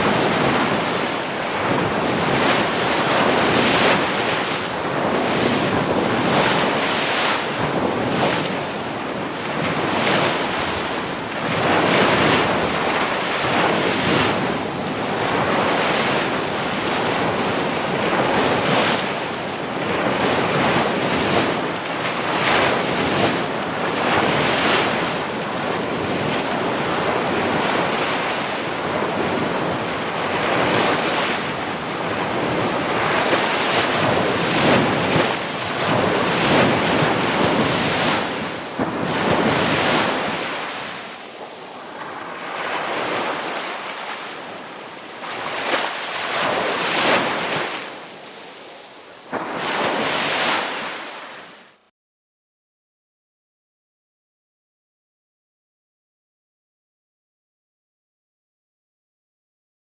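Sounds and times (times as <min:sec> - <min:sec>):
ocean waves breaking: 0:00.0 - 0:51.8.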